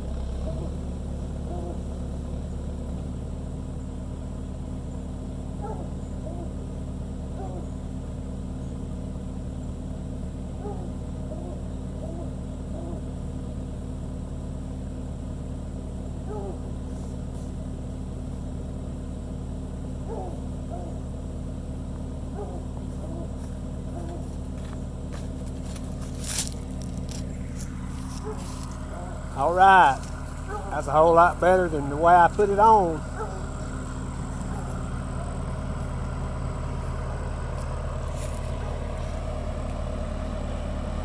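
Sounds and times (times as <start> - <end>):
crawler engine running: 0.0 - 41.0.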